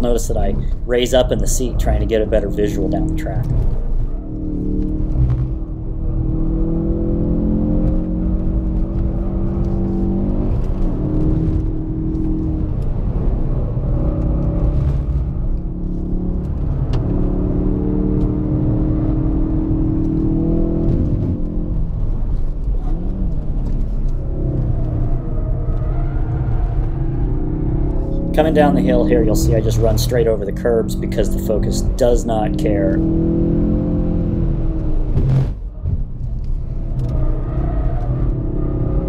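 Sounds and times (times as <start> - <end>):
car engine pulling hard: 0.0 - 39.0.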